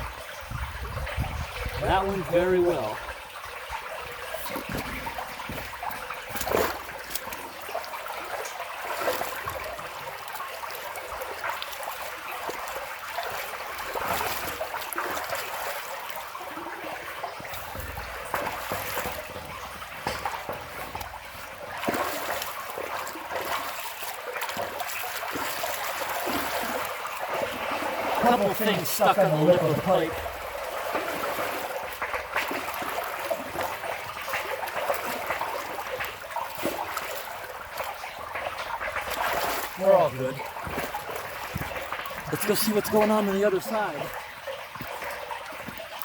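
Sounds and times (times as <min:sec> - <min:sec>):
water trickling through pipe: 0:00.0 - 0:46.0.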